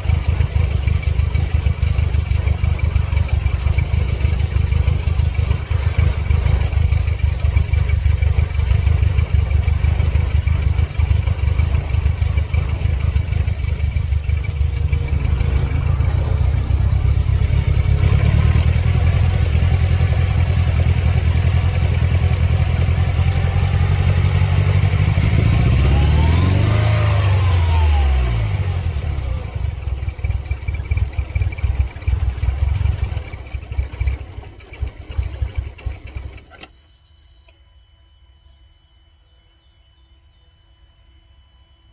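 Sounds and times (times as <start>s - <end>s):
car engine running unevenly: 0.0s - 36.8s.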